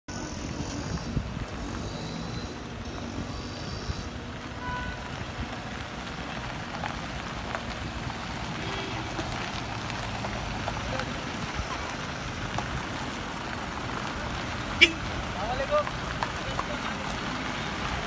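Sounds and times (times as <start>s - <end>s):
vehicle engines rumbling: 0.0s - 18.0s
tyre noise on road: 0.1s - 18.0s.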